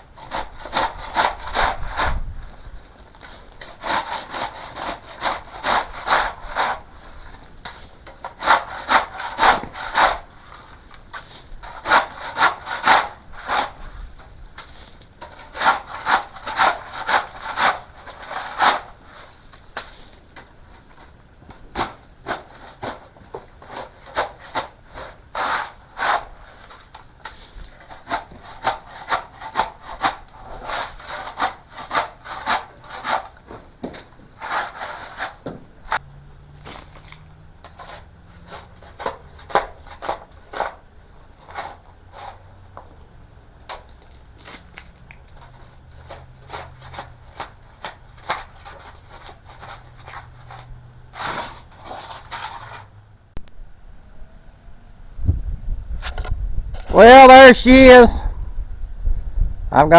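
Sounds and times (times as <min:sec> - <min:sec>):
rhythmic scraping on wood: 0:00.0 - 0:42.9, 0:43.5 - 0:53.2.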